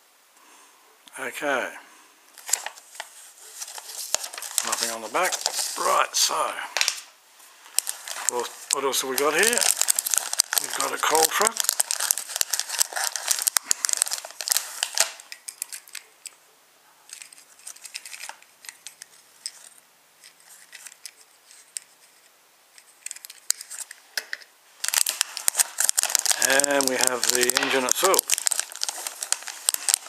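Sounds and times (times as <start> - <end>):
faint clicks and rustles: 2.3 - 6.0, 6.8 - 30.0
plastic packaging crinkling: 2.3 - 16.4, 17.1 - 24.1, 24.7 - 30.0.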